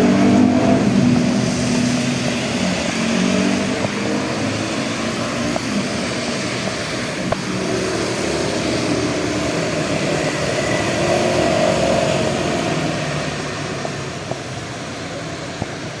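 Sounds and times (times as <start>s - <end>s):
engine passing: 0.0s - 14.2s
steady rain falling: 0.0s - 16.0s.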